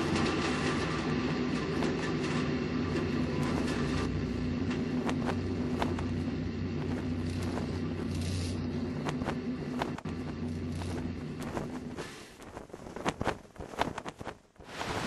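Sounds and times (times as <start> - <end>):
low engine-like rumble: 0.0 - 12.6.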